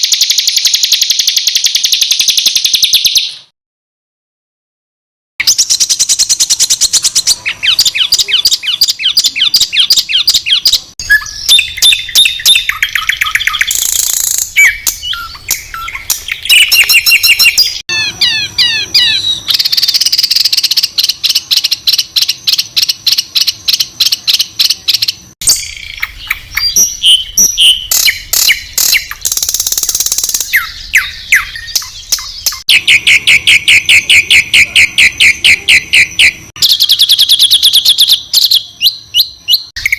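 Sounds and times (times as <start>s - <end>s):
songbirds singing harsh notes: 0.0s - 3.5s, 5.4s - 39.9s.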